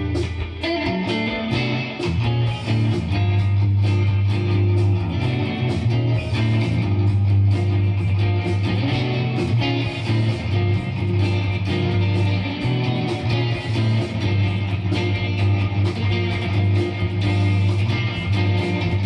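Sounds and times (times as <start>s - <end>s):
electric guitar picking chords: 0.0s - 19.0s.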